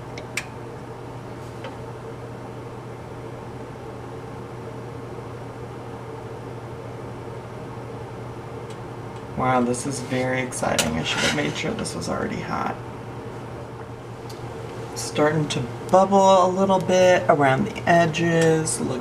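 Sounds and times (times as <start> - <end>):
kitchen fan whirring hum: 0.0 - 19.0.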